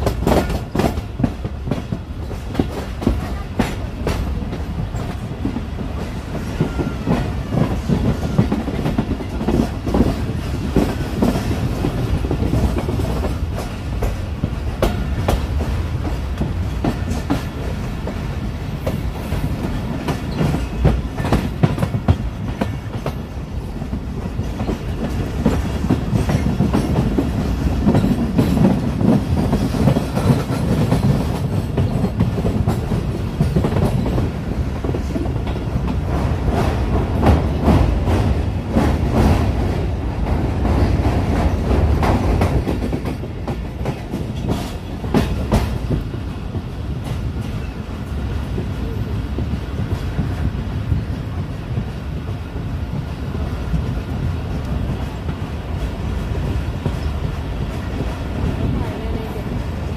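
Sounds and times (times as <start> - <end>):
wheels clacking over rail joints: 0.0 - 53.1
train rumble: 0.0 - 59.9.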